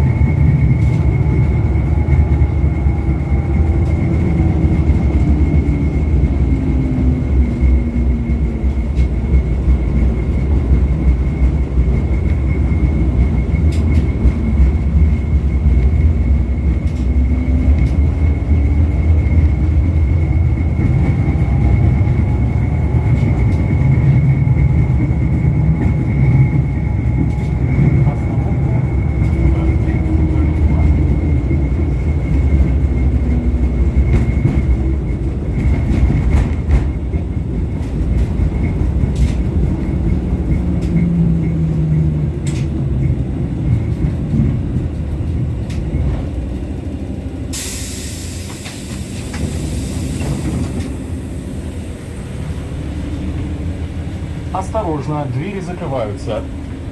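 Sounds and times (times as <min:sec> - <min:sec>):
steady high whine: 0:00.0 - 0:36.2, 0:47.4 - 0:56.9
tram motor whine: 0:00.0 - 0:56.9
tram wheels rumbling on rails: 0:00.0 - 0:56.9.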